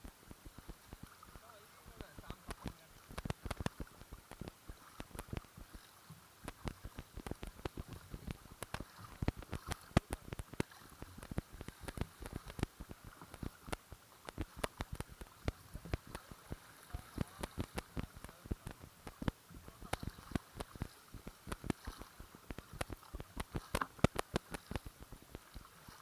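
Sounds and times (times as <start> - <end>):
water dripping off paddle: 0.0 - 26.0.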